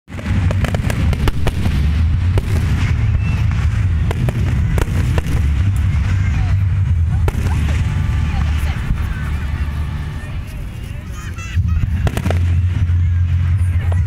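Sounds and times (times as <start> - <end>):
fireworks cracking and popping: 0.1 - 14.0
low rumble: 0.1 - 14.0.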